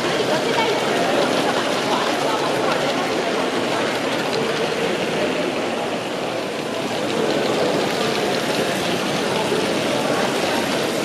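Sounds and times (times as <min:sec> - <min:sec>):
crowd chatter: 0:00.0 - 0:11.0
model train rattling on track: 0:00.0 - 0:11.0.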